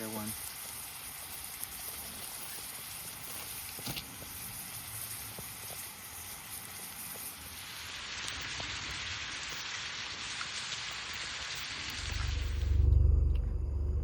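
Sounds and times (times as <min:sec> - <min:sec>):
food sizzling in a pan: 0:00.0 - 0:12.8.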